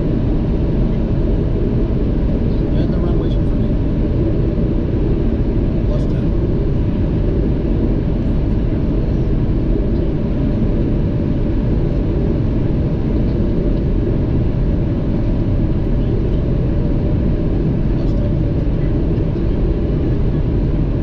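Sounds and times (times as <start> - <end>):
jet cockpit rumble: 0.0 - 21.0.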